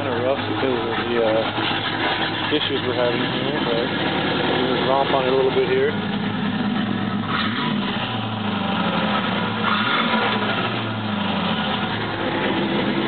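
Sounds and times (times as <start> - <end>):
engine idling roughly: 0.0 - 13.0.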